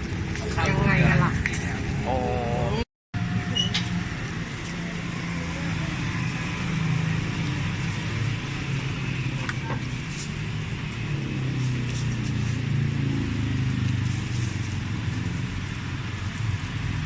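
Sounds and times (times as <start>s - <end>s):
motor traffic rumble: 0.0s - 17.0s.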